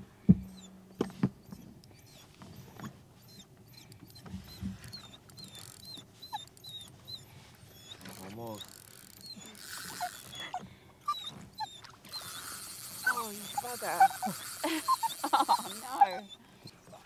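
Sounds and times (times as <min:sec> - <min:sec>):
dog whining: 0:00.4 - 0:17.0
fishing reel squeaking: 0:01.4 - 0:17.0.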